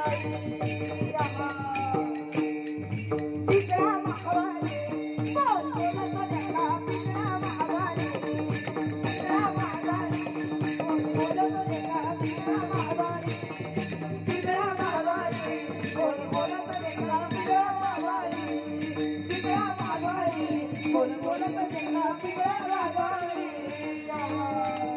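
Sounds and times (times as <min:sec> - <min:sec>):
boy singing through loudspeakers: 0:00.0 - 0:02.4, 0:03.5 - 0:24.9
barrel drum: 0:00.0 - 0:23.7
hand cymbals clashing: 0:00.0 - 0:24.9.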